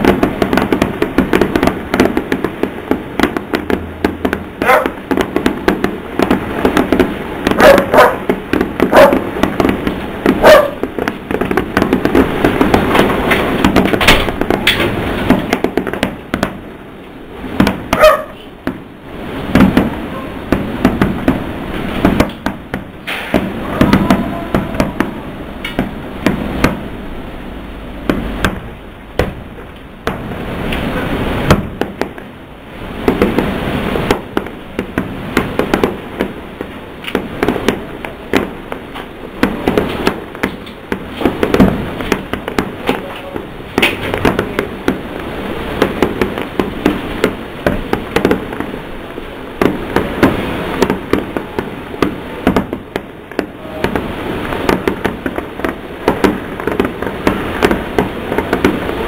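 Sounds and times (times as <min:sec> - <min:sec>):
fireworks bangs: 0:00.0 - 0:59.0
rumbling haze: 0:00.0 - 0:59.0.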